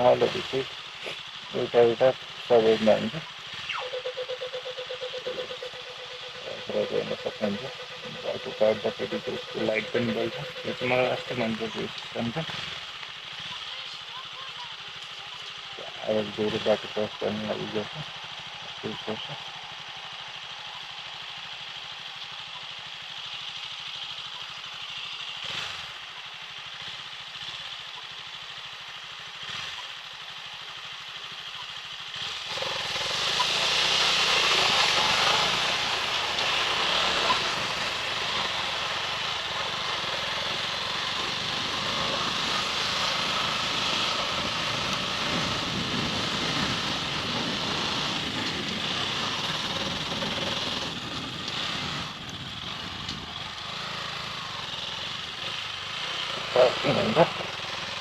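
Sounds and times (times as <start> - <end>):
wind and road noise: 0.0 - 4.0, 5.1 - 27.6, 31.7 - 58.0
motorcycle engine idling: 0.0 - 58.0.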